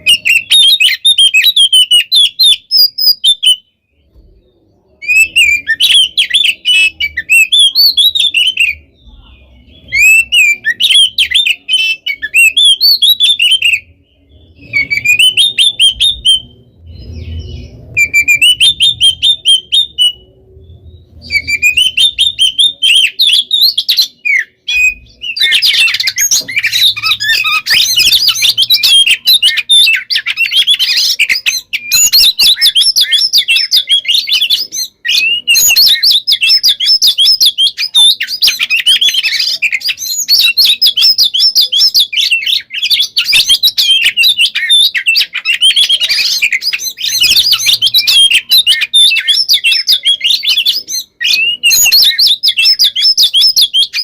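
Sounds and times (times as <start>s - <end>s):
bird singing rapid whistles: 0.0s - 54.0s.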